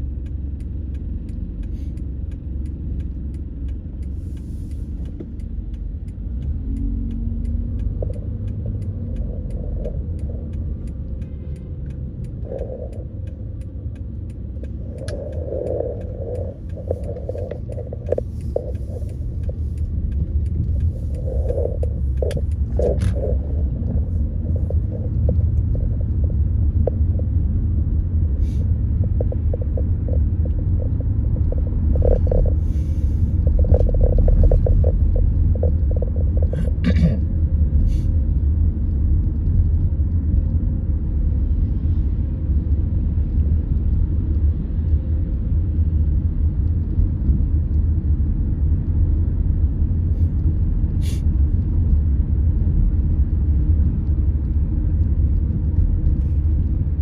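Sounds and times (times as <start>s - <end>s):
road and engine rumble in car: 0.0s - 57.0s.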